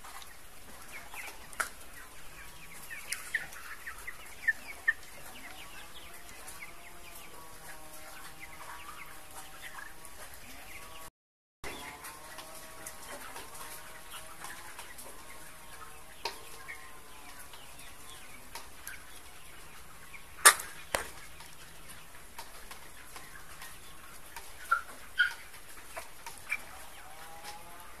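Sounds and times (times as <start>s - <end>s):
hens clucking: 0.0s - 11.1s, 11.7s - 28.0s.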